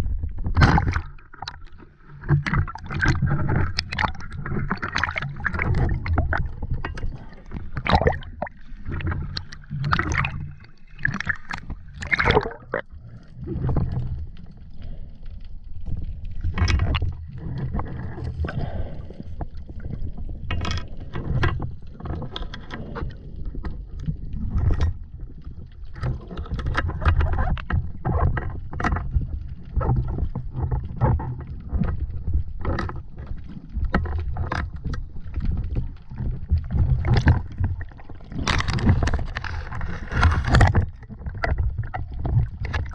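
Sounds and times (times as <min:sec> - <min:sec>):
sea water sloshing and splashing: 0:00.0 - 0:42.9.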